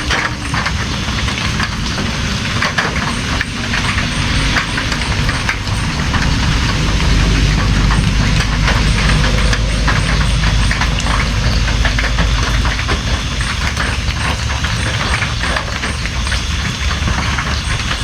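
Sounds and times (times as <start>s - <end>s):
rain drops hitting: 0.0s - 18.0s
deep steady rumble: 0.3s - 18.0s.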